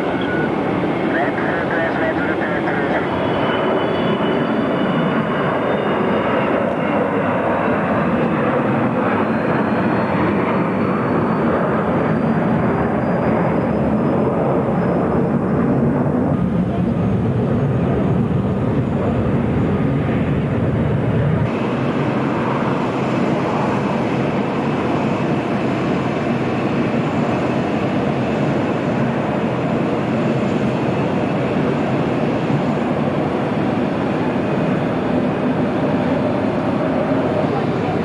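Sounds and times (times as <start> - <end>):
jet airliner rumble climbing: 0.0 - 38.0
jet engines rushing at taxi: 0.0 - 38.0.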